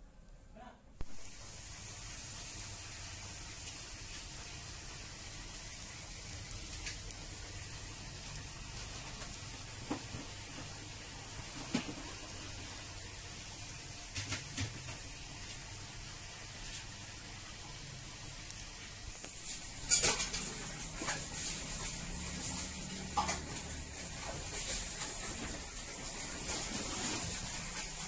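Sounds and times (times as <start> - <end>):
cakes hissing in frying pan: 1.0 - 28.0.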